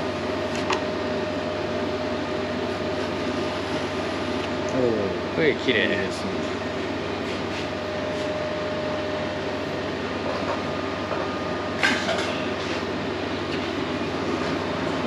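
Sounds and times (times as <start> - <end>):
machinery humming and hissing: 0.0 - 15.0.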